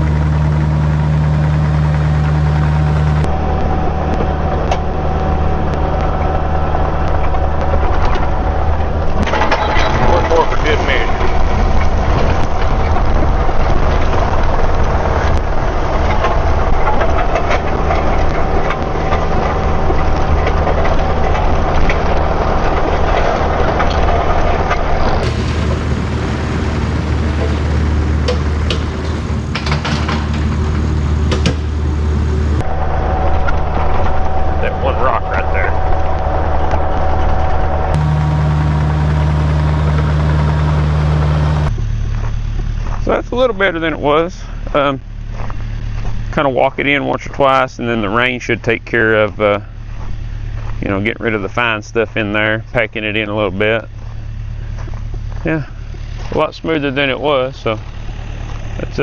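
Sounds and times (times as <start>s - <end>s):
diesel engine running: 0.0s - 59.0s
gravel crunching and scraping: 0.0s - 59.0s.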